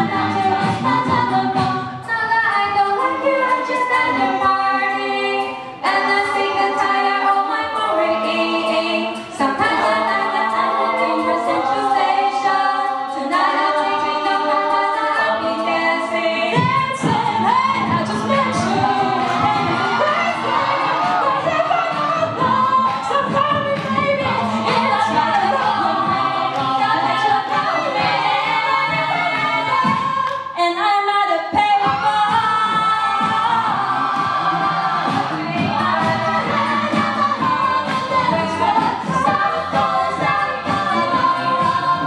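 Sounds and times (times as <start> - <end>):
a cappella group singing: 0.0 - 42.0.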